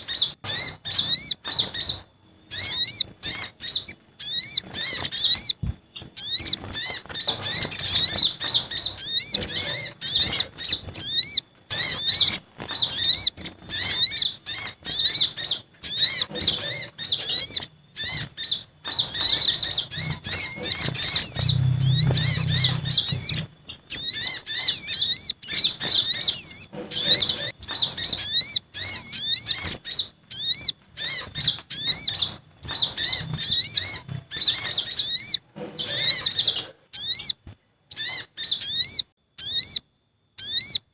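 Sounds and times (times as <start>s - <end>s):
birds chirping and twittering: 0.0s - 40.9s.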